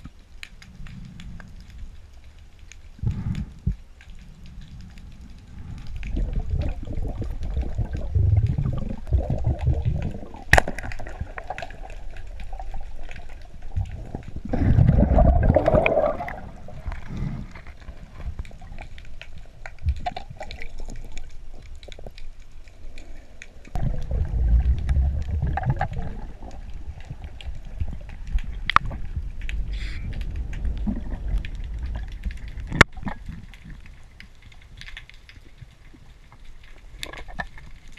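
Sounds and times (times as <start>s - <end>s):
underwater rushing water noise: 0.0s - 37.9s.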